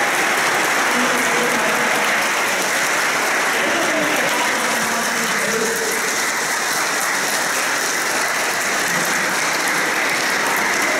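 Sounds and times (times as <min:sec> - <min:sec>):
crowd clapping: 0:00.0 - 0:10.9.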